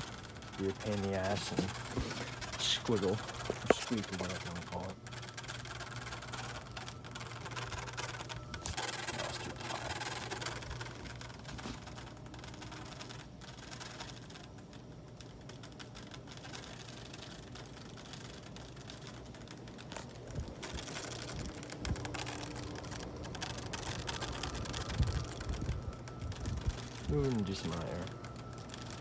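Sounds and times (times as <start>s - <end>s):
fan motor buzzing: 0.0s - 29.0s
rapid fine clicking: 0.0s - 29.0s.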